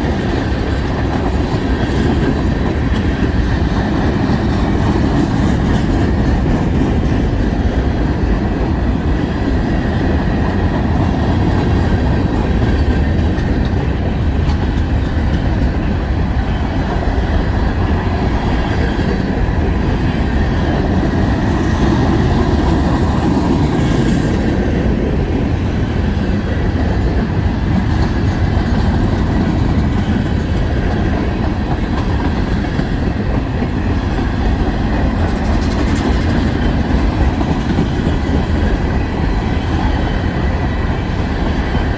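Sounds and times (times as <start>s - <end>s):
clickety-clack over rail joints: 0.0s - 41.9s
train wheels rumbling on rail: 0.0s - 41.9s.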